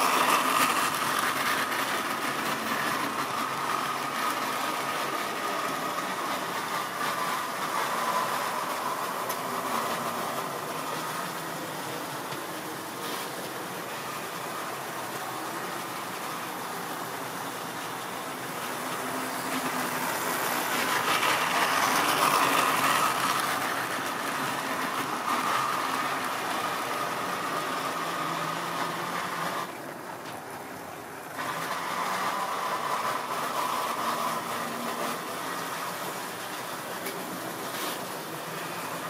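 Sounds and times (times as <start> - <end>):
model train motor humming: 0.0 - 39.0
wheels running on rails: 0.0 - 39.0.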